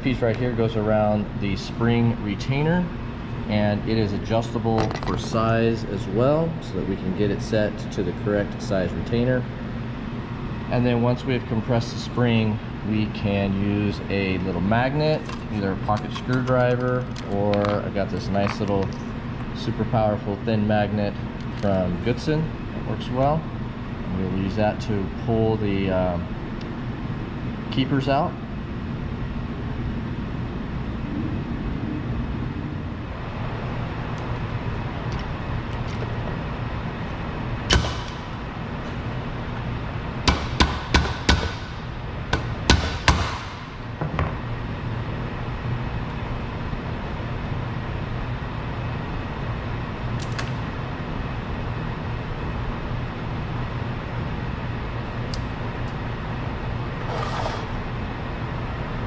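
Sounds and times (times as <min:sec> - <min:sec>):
low shop hum: 0:00.0 - 0:59.0.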